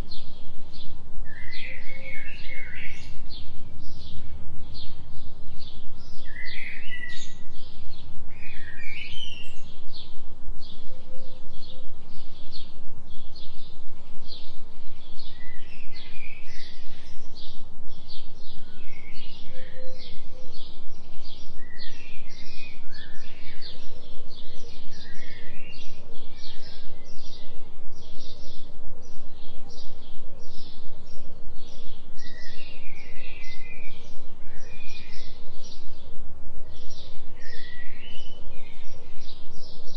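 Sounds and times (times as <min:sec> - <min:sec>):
low steady hum: 0:00.0 - 0:39.9
small birds chirping: 0:00.0 - 0:39.9.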